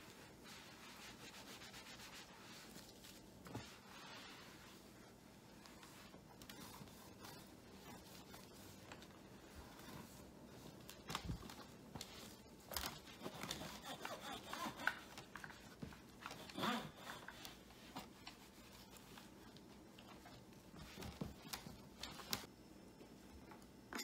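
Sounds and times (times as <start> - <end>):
cloth wiping plastic: 0.0 - 22.5.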